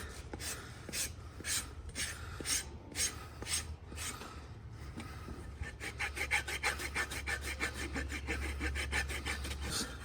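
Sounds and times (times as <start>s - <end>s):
rasp filing a hoof: 0.0s - 4.3s, 5.3s - 10.0s.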